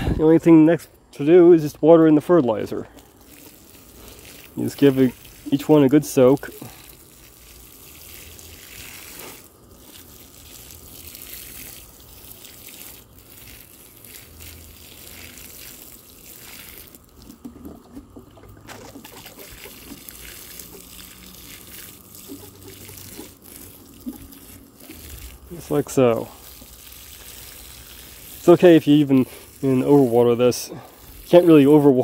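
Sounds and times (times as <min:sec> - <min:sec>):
water sprinkling onto soil: 0:01.2 - 0:32.0.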